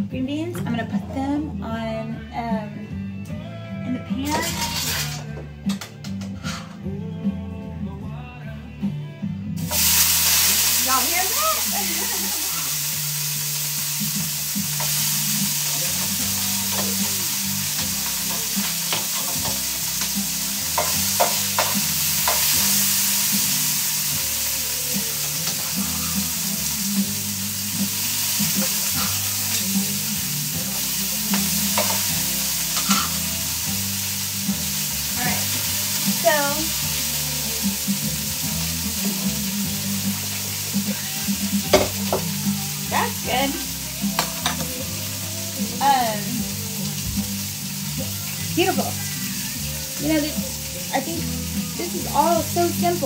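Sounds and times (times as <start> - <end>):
beans sizzling in hot oil: 4.2 - 5.3, 9.6 - 53.0.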